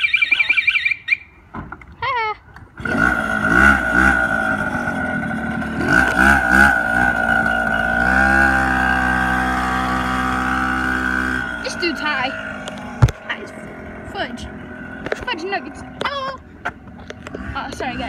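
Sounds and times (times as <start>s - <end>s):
engine revving: 2.8s - 18.0s.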